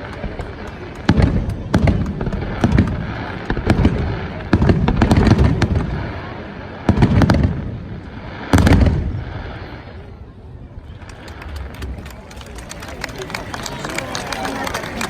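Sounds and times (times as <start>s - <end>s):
fireworks bursting with rumbling echo: 0.0s - 13.4s.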